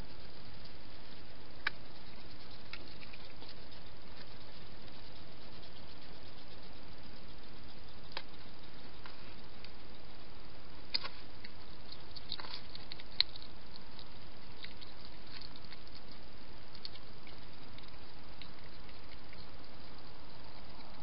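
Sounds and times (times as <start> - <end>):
small clicks and ticks: 0.0 - 21.0
steady hiss: 0.0 - 21.0.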